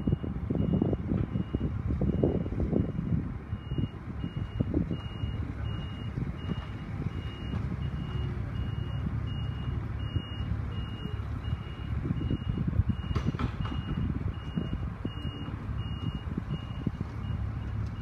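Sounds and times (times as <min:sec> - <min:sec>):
low engine rumble: 0:00.0 - 0:18.0
reversing alarm beeping: 0:00.0 - 0:18.0.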